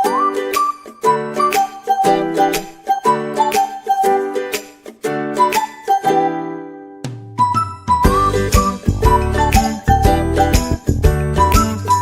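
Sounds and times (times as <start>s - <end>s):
upbeat ukulele music: 0.0s - 12.0s.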